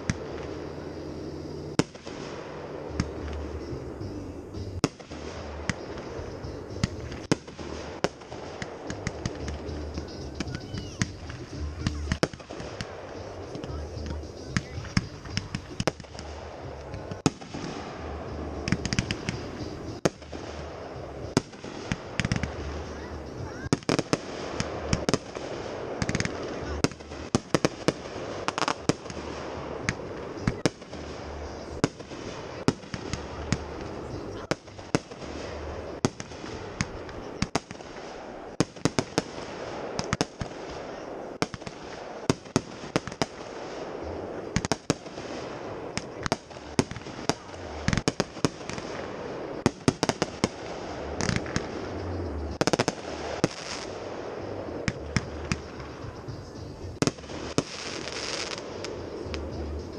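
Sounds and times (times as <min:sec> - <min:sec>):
fireworks bangs and cracks: 0:00.0 - 0:59.9.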